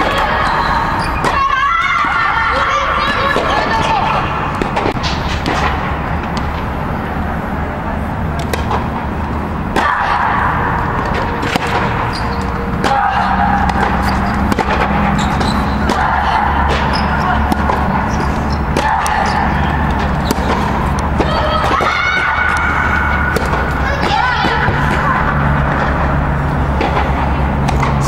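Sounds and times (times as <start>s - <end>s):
steady low hum: 0.0s - 28.0s
tennis ball struck and bouncing: 3.0s - 6.8s, 8.4s - 28.0s.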